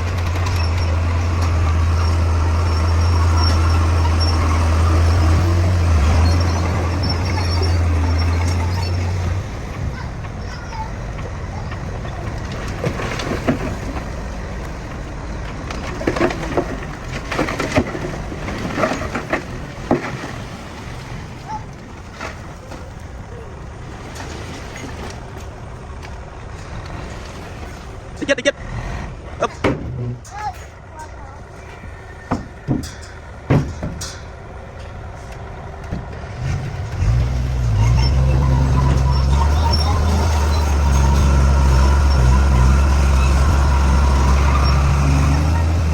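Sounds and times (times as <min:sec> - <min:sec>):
bulldozer engine rumble: 0:00.0 - 0:45.9.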